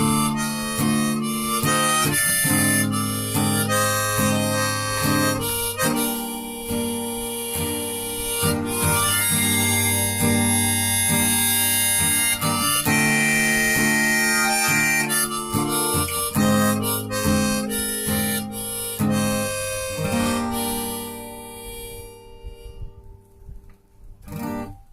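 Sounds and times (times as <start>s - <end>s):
harmonica melody: 0.0s - 23.0s
acoustic guitar: 0.0s - 24.9s.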